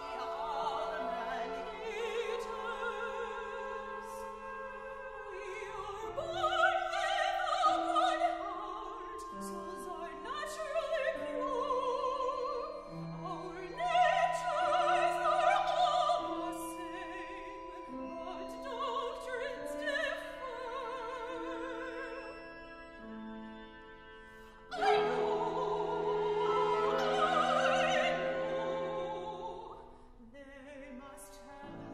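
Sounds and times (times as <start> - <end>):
operatic high voice singing: 0.0 - 22.3, 24.7 - 31.9.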